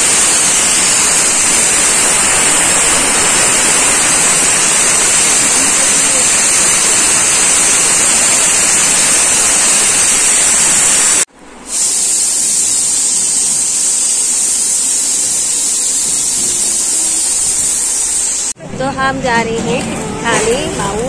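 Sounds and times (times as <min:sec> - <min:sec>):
loud rushing hiss: 0:00.0 - 0:18.6.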